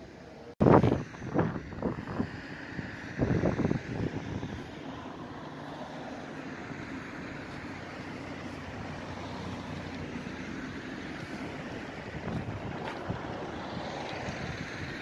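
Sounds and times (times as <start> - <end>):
low engine rumble: 0.0 - 15.0
outdoor background noise: 0.0 - 15.0.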